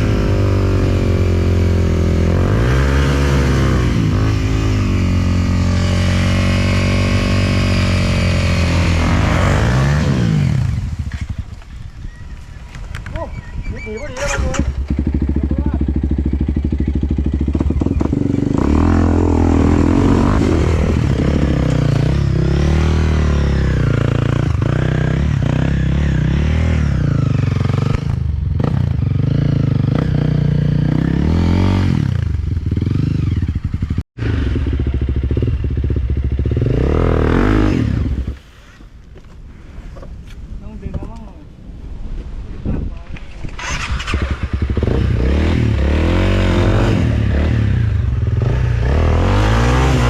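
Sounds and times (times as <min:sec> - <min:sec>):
dirt bike engine revving: 0:00.0 - 0:11.4, 0:14.2 - 0:38.4, 0:43.4 - 0:50.0.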